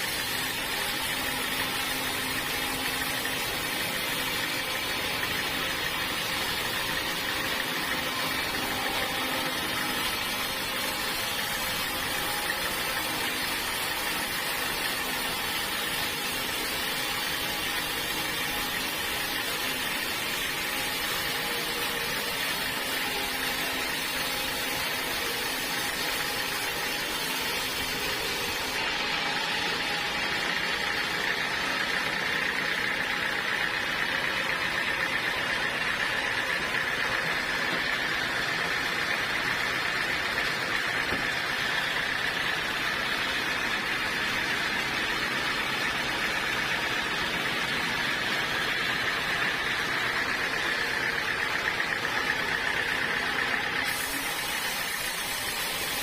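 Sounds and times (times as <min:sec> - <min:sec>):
bandsaw sawmill motor hum and whine: 0:00.0 - 0:56.0.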